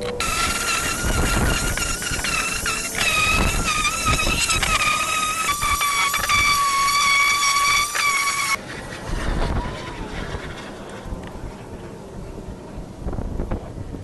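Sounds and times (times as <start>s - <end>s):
electric sander whining: 0.0s - 11.4s
faint wind-like noise: 0.0s - 14.0s.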